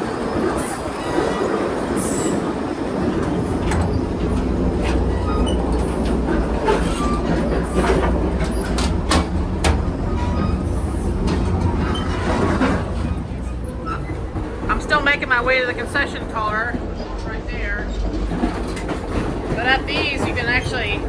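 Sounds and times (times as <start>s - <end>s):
train wheels rumbling on track: 0.0s - 21.0s
clanks and rattles: 3.0s - 21.0s.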